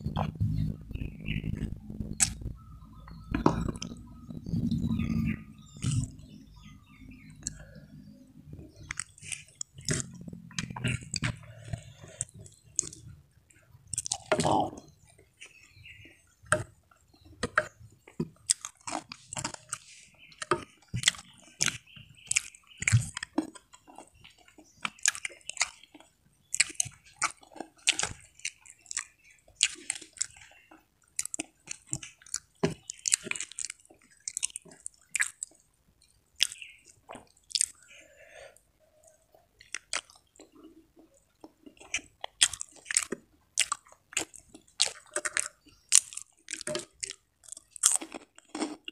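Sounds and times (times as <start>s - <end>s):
crackers crunching: 0.0s - 2.6s, 8.7s - 13.1s, 13.9s - 15.7s, 16.5s - 38.1s, 39.6s - 48.9s
chewing and mouth smacking: 0.0s - 7.9s, 8.5s - 48.9s.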